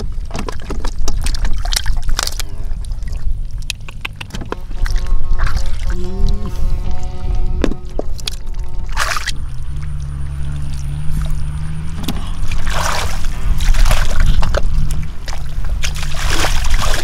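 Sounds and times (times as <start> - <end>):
muddy water splashing: 0.0 - 17.0
steady low drone: 2.3 - 17.0.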